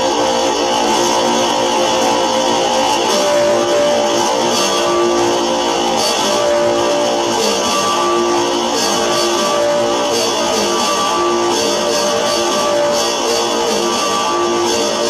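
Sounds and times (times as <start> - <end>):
experimental noise music drone: 0.0 - 15.0.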